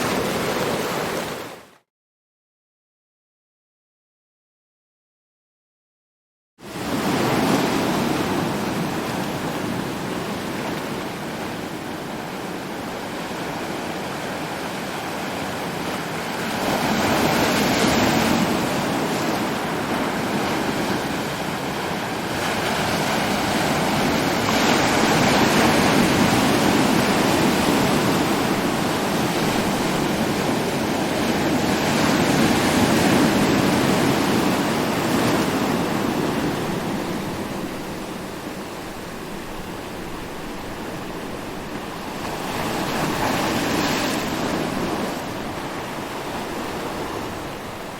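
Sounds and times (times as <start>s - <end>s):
ocean waves breaking: 0.0s - 1.8s, 6.6s - 47.9s.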